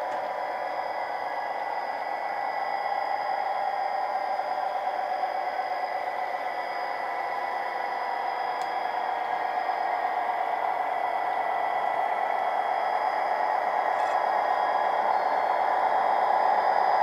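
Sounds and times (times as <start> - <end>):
model train whirring hum: 0.0 - 17.0.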